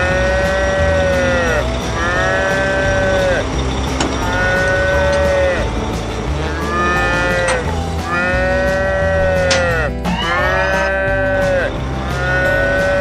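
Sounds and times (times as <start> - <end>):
low stepping bass line: 0.0 - 13.0
reedy held note drooping: 0.0 - 13.0.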